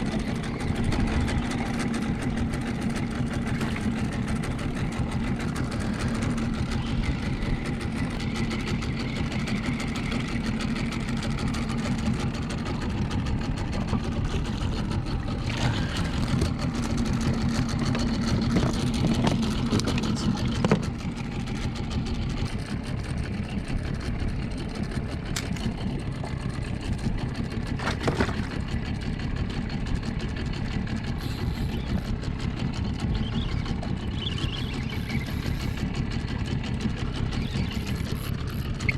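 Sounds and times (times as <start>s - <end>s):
outboard motor idling: 0.0s - 38.9s.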